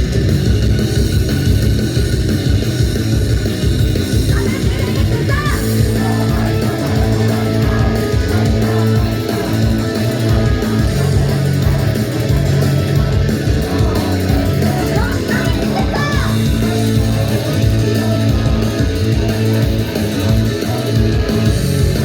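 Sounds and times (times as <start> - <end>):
heavy rock music: 0.0 - 22.0.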